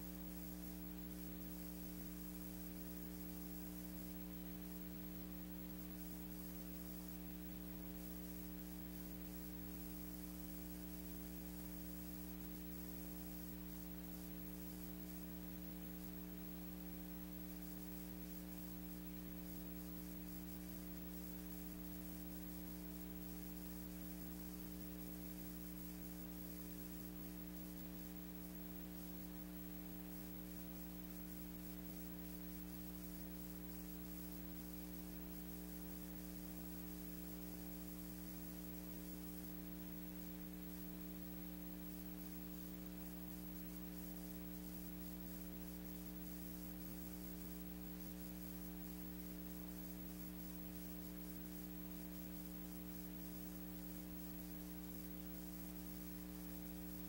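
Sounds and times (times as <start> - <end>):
electrical hum: 0.0 - 57.0
faint hiss: 0.0 - 57.0.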